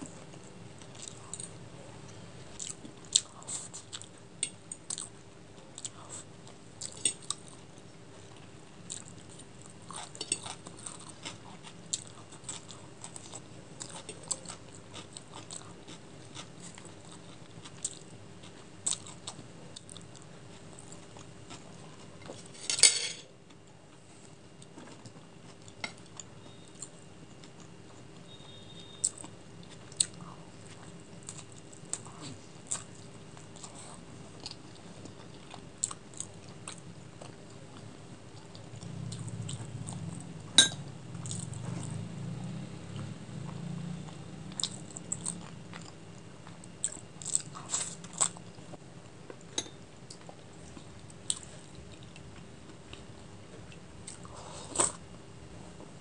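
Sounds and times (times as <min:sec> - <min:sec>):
chewing and mouth sounds: 0:00.1 - 0:01.6, 0:02.6 - 0:22.5, 0:29.0 - 0:42.2, 0:42.9 - 0:55.0.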